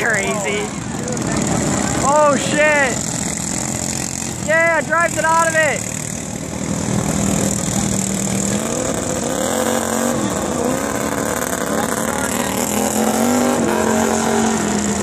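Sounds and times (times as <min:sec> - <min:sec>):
lawn tractor engine buzzing: 0:00.0 - 0:15.0.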